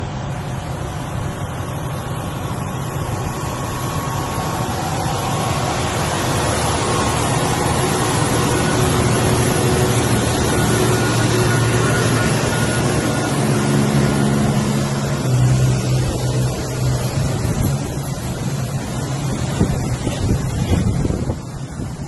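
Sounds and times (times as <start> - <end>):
truck engine humming: 0.0 - 22.0.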